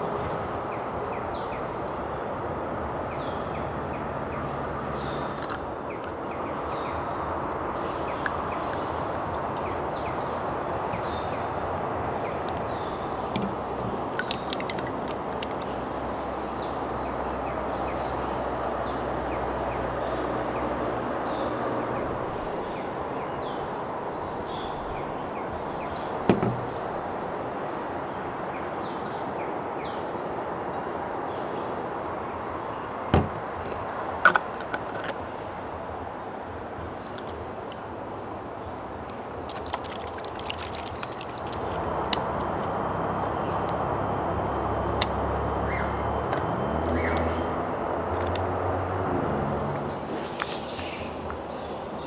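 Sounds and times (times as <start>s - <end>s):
outdoor background noise: 0.0s - 52.0s.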